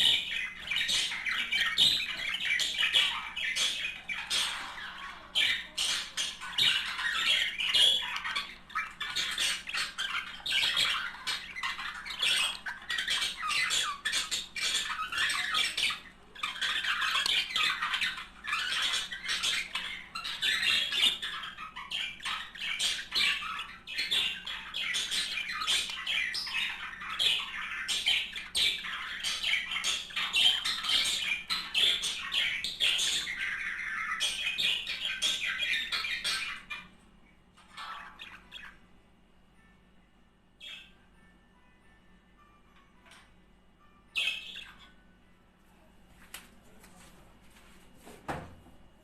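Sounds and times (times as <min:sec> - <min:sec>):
budgerigars warbling and chattering: 0:00.0 - 0:39.0, 0:40.6 - 0:41.1, 0:44.0 - 0:45.2.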